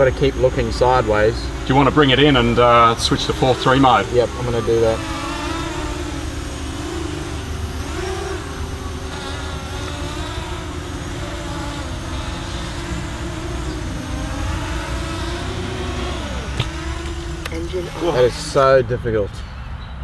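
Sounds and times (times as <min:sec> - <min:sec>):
quadcopter motors whining: 0:00.0 - 0:19.5.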